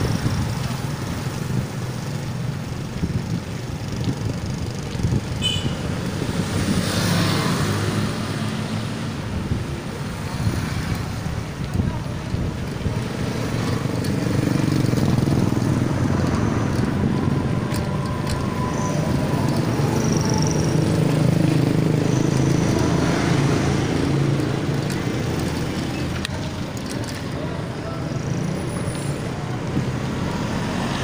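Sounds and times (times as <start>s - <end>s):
wind buffeting microphone: 0.0s - 2.0s, 2.7s - 26.6s
motorbike passing: 0.0s - 31.0s
road noise: 0.0s - 31.0s.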